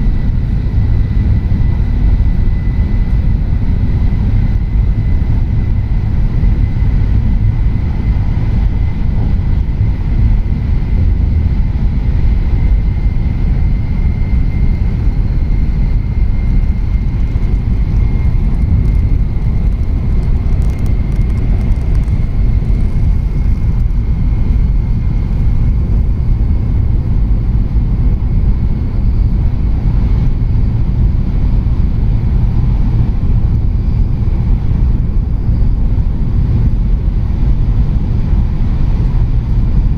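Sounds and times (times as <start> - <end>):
train low rumble: 0.0 - 39.9.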